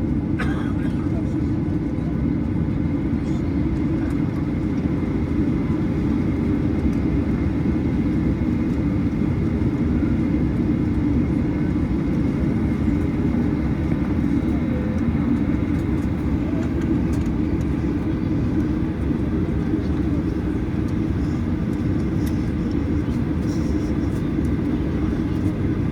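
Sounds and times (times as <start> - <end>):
airplane cabin engine drone: 0.0 - 25.9.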